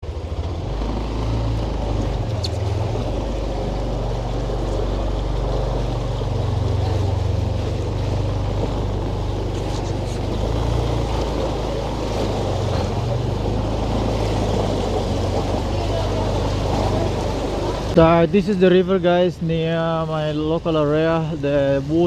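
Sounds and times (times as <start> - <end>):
wind rumbling on microphone: 0.0 - 19.8
vehicle engine running: 0.0 - 20.4.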